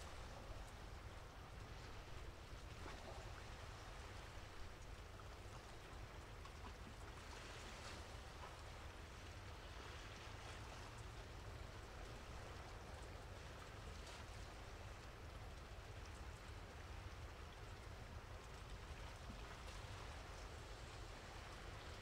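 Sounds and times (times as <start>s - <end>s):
light rain patter: 0.0s - 22.0s
low steady rumble: 0.0s - 22.0s.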